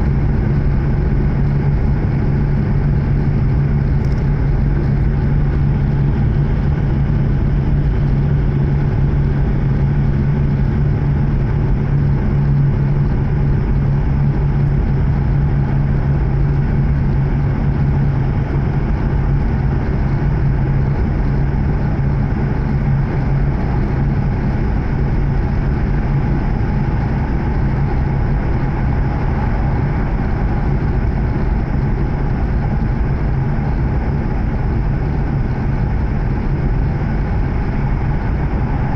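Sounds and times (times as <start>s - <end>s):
train interior rumble and hum: 0.0s - 38.9s.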